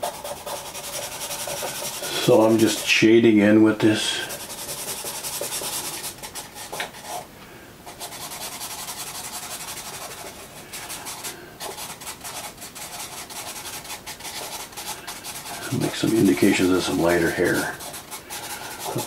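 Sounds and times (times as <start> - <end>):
pencil scratching on paper: 0.0 - 3.1, 4.0 - 7.3, 7.9 - 19.0.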